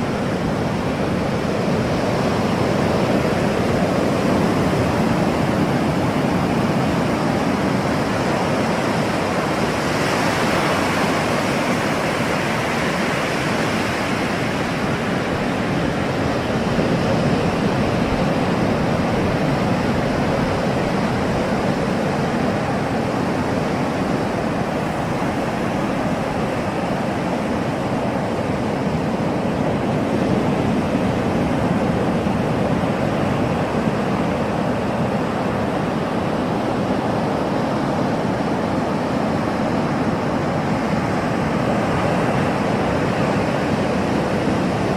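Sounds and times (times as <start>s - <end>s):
ocean waves on shore: 0.0s - 44.9s.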